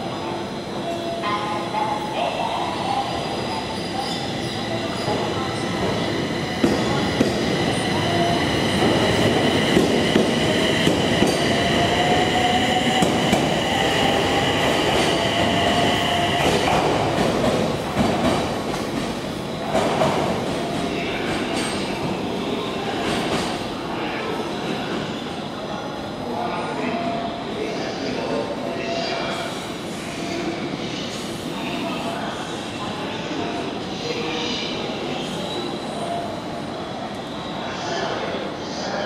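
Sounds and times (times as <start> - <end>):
another train running: 0.0 - 39.0.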